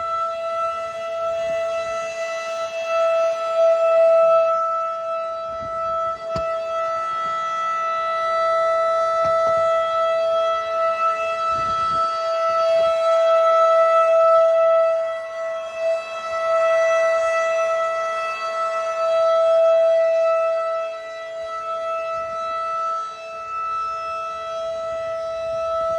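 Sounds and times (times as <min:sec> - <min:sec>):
rotating warning siren low tone: 0:00.0 - 0:25.9.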